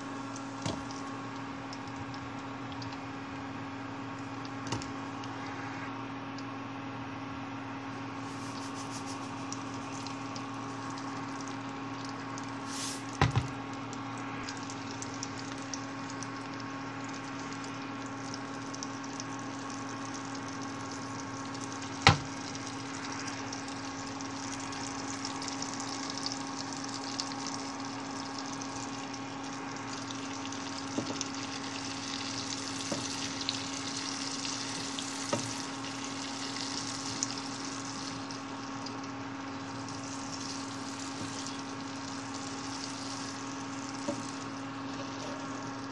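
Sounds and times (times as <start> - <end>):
constant low hum: 0.0 - 45.9
vegetables sizzling in oil: 7.9 - 45.9.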